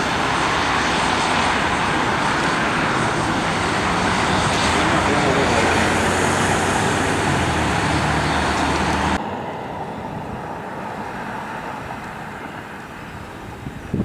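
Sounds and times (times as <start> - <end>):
faint jet whine: 0.0 - 14.0
jet rush on approach: 0.0 - 14.0
loud jet engine roar: 0.0 - 14.0.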